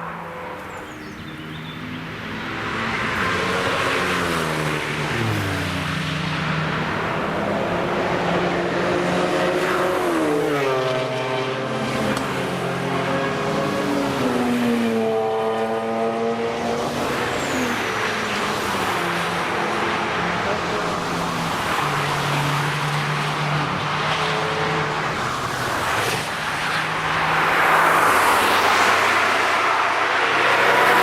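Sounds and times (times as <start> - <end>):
cars passing at speed: 0.0 - 31.0.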